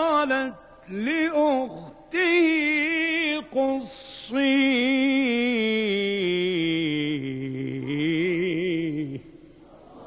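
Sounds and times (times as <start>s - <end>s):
person chanting recitation: 0.0s - 10.0s.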